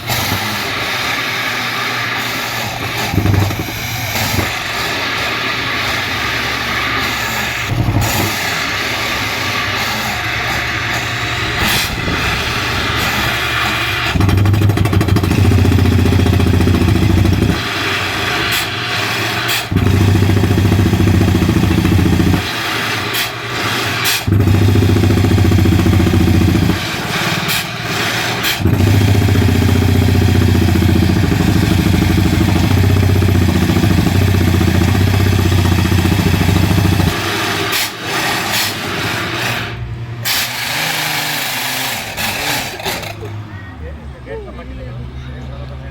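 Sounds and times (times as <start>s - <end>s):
boring rig engine running: 0.0s - 45.9s.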